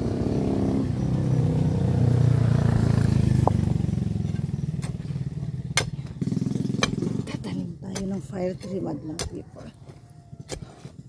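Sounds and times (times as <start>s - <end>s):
passing vehicle engine hum: 0.0s - 9.1s.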